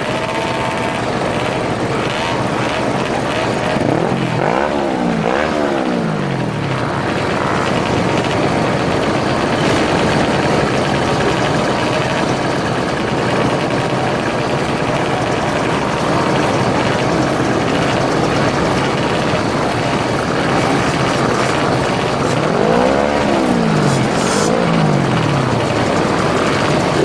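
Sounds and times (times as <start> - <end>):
moped engine revving: 0.0 - 27.0
moped engines running: 0.0 - 27.0
rushing noise: 0.0 - 27.0.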